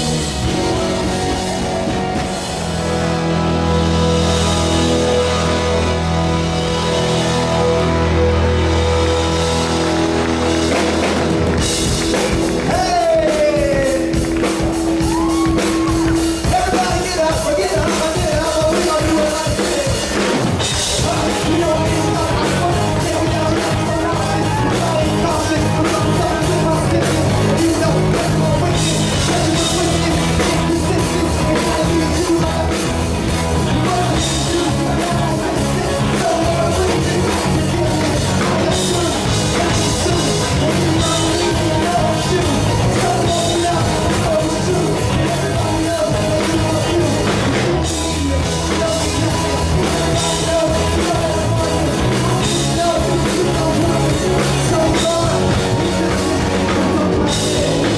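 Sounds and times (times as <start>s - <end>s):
person singing: 0.0s - 57.9s
rock music: 0.0s - 57.9s.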